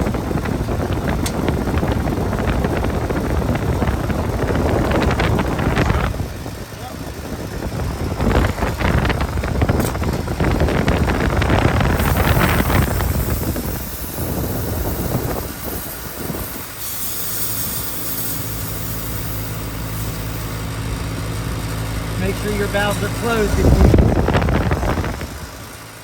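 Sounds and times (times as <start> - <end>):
air conditioner low hum: 0.0 - 25.8.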